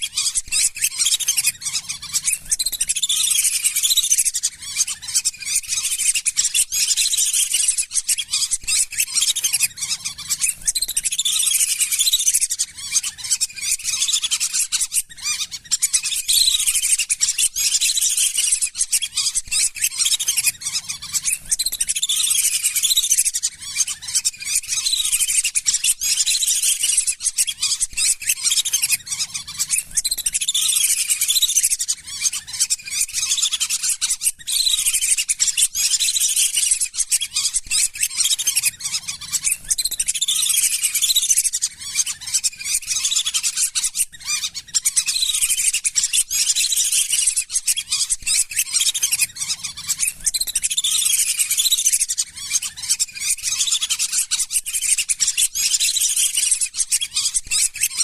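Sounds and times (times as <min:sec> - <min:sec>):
ducks whistling calls: 0:00.0 - 0:58.0.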